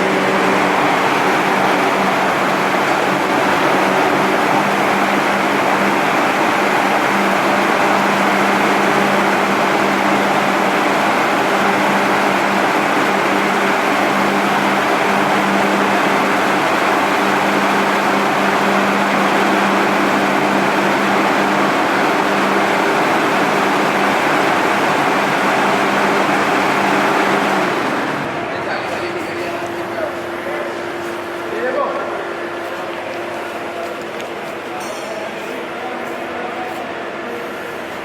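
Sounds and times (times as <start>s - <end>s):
fan air rushing: 0.0s - 38.0s
fan motor hum: 0.0s - 38.0s.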